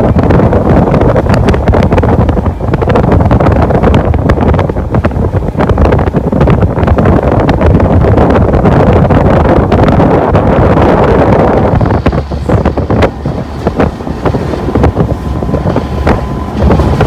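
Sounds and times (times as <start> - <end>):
boat engine: 0.0 - 17.0
water noise: 0.0 - 17.0
wind blasting microphone: 0.0 - 17.0.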